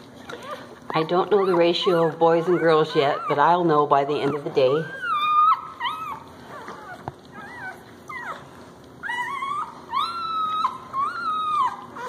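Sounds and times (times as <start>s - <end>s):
puppies whining: 0.0s - 12.0s.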